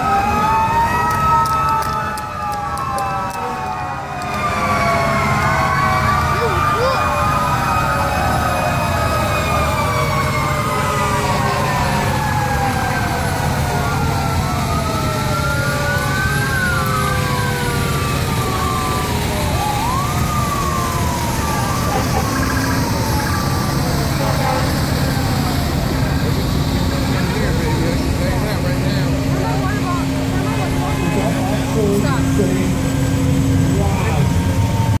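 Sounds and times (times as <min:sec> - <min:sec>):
sirens wailing: 0:00.0 - 0:35.0
truck engines rumbling: 0:00.0 - 0:35.0.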